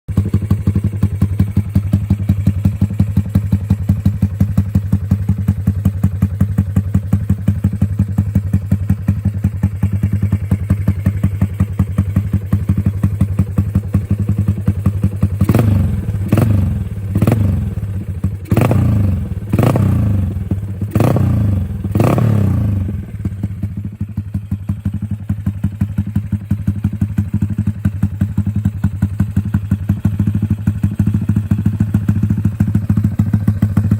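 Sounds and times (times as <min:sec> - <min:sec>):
motorcycle engine idling and revving: 0:00.1 - 0:33.9.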